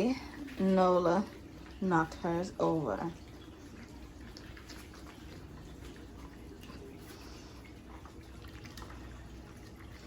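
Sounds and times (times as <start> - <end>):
low room hum: 0.0 - 10.0
puppies eating from bowls: 0.0 - 10.0.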